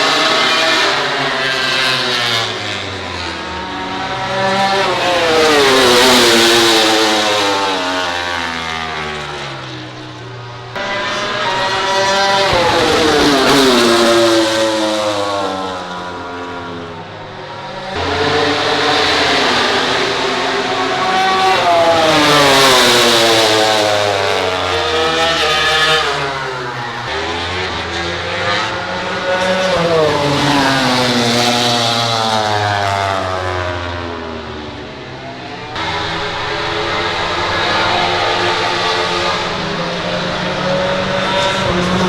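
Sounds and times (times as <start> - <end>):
racing motorcycles passing: 0.0 - 42.0.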